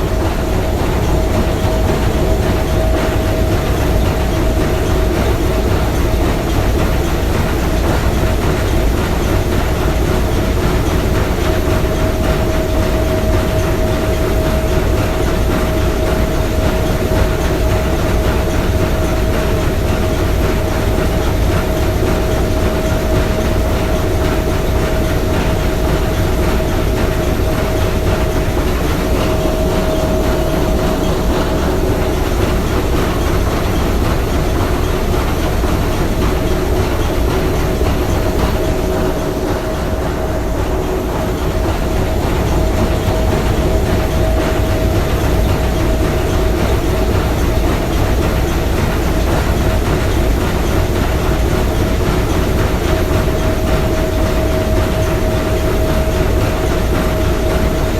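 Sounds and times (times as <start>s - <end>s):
steam engine clattering and rumbling: 0.0s - 57.9s.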